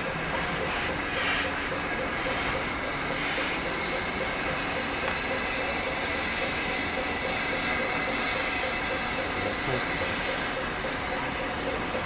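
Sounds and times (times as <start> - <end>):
hiss of steam: 0.0 - 11.9
steam locomotive moving slowly: 0.0 - 12.0.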